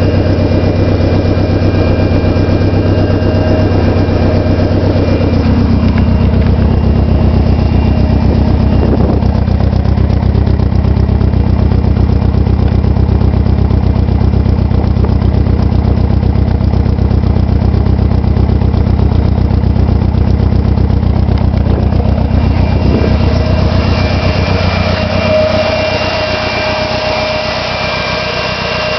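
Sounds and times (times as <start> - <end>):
car engine idling with misfire: 0.0 - 28.9.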